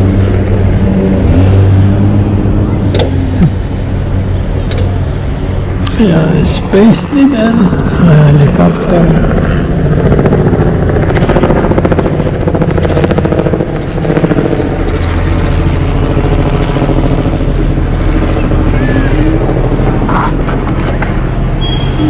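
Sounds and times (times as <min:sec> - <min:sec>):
engine drone: 0:00.0 - 0:22.0
helicopter rotor beating: 0:00.0 - 0:22.0.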